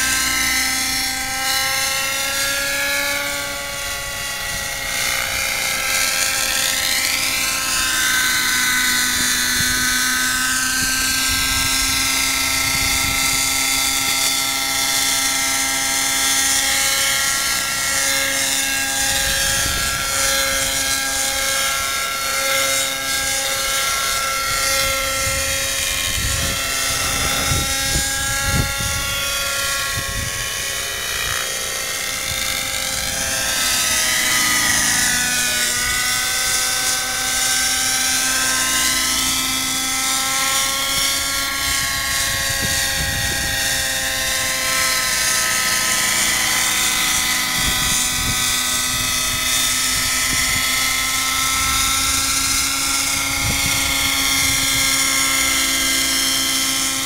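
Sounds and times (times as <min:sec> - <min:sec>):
model helicopter engine whine: 0:00.0 - 0:57.0.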